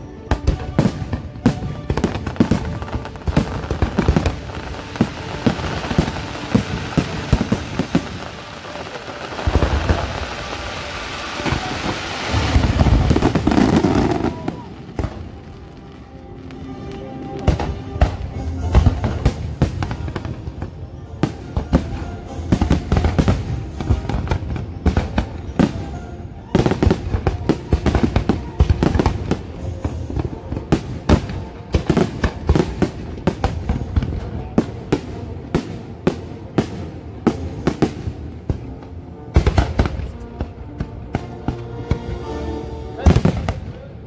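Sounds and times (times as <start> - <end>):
show music: 0.0 - 43.8
fireworks booming and crackling: 0.2 - 42.3, 43.0 - 44.0.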